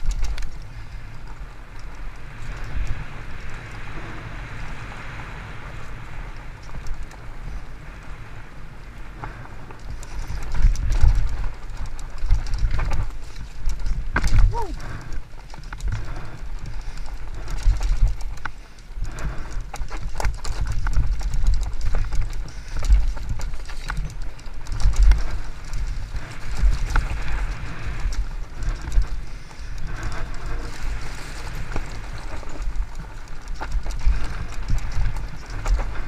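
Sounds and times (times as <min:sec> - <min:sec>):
bike knocking and rattling: 0:00.0 - 0:36.0
bike tyres rolling on dirt: 0:00.0 - 0:36.0.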